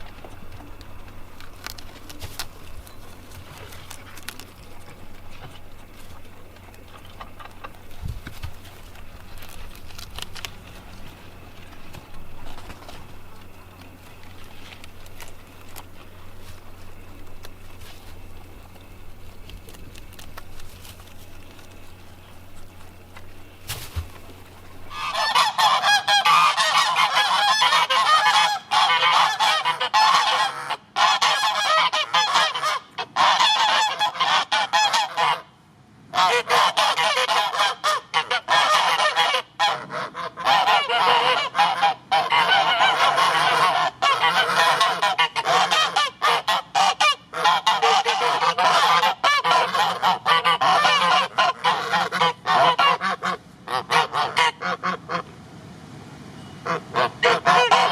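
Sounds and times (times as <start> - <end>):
geese honking: 0.0 - 35.5, 36.1 - 55.3, 56.6 - 57.9.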